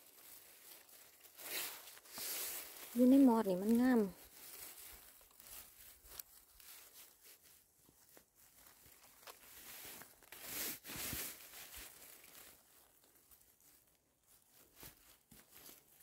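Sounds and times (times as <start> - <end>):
rustling of forest-floor litter: 0.0 - 16.0.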